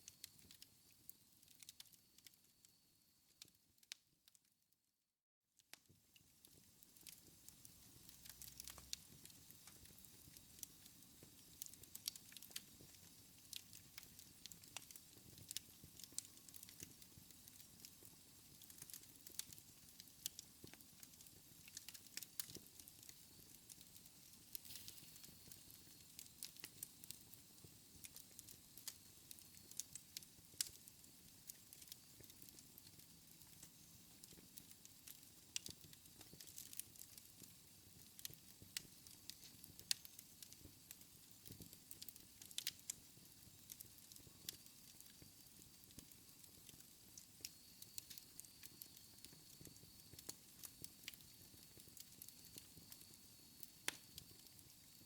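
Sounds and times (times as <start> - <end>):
wood fire crackling: 0.0 - 2.4, 5.7 - 55.0.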